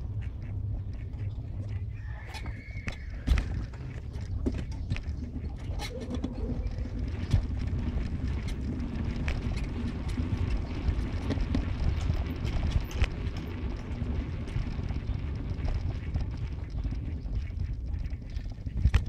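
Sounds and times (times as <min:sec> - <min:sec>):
low road rumble: 0:00.0 - 0:19.0
knocks and clicks: 0:00.8 - 0:19.0.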